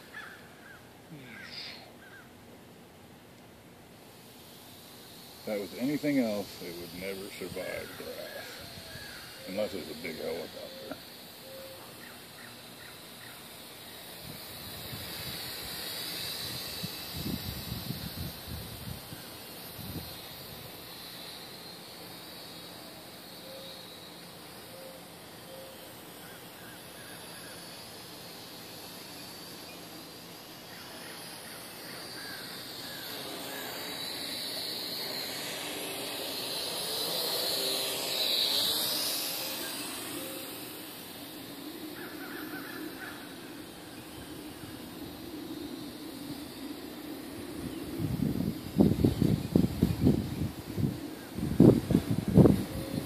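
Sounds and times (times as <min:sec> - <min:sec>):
quadcopter propellers whining: 0:00.0 - 0:02.4, 0:03.0 - 0:53.0.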